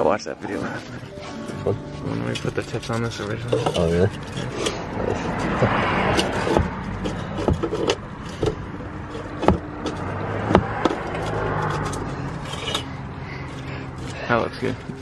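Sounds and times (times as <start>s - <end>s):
metallic knocks and clanks: 1.5s - 15.0s.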